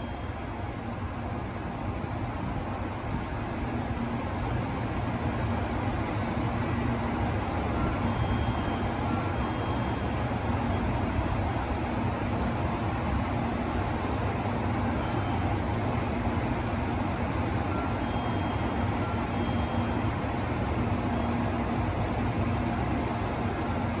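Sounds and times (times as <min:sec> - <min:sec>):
low hum and rumble of train equipment: 0:00.0 - 0:24.0.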